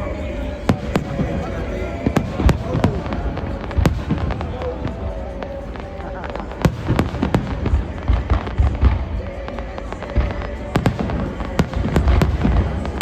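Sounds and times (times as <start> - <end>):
faint music: 0.0 - 13.0
fireworks bangs and crackles: 0.0 - 13.0.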